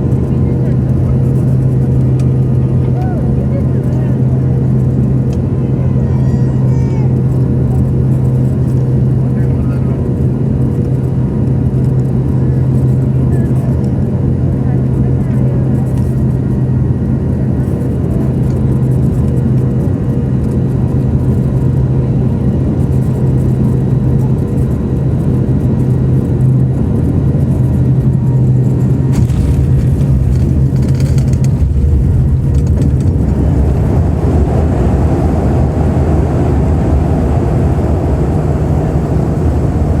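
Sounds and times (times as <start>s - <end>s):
passenger aircraft droning: 0.0s - 40.0s.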